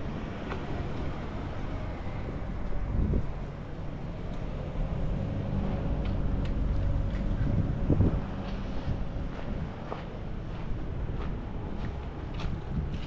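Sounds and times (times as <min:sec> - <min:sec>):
street traffic rumble: 0:00.0 - 0:13.0
wind buffeting microphone: 0:00.9 - 0:03.8, 0:04.8 - 0:13.0.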